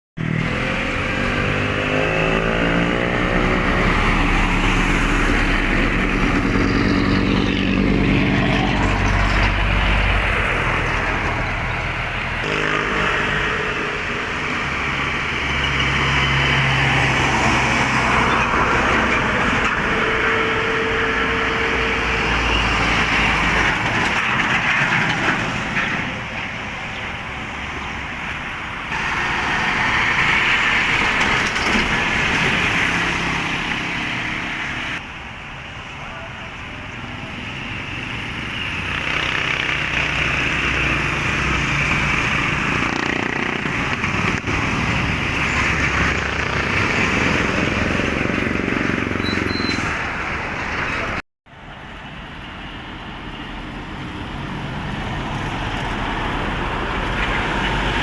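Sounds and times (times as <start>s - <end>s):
diesel truck engines passing: 0.2s - 58.0s
tyre and road noise: 0.2s - 58.0s.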